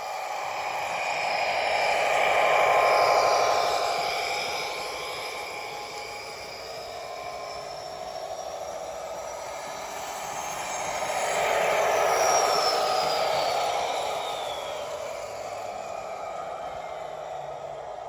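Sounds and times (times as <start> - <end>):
model locomotive engine sound: 0.0 - 18.0.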